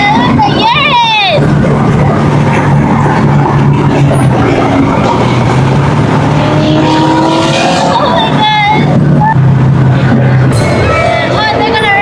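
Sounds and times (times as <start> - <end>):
car accelerating: 0.0 - 12.0
car engine and road noise: 0.0 - 12.0.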